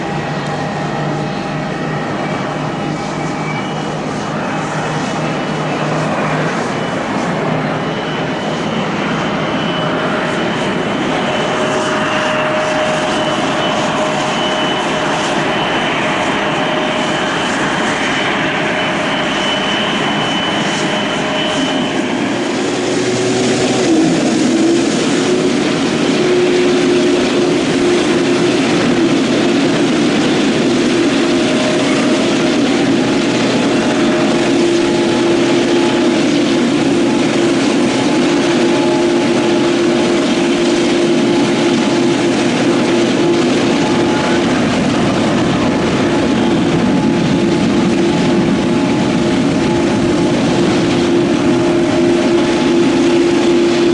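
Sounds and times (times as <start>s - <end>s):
jet engines at takeoff thrust: 0.0s - 53.9s
jet engines landing with high whine: 0.0s - 53.9s.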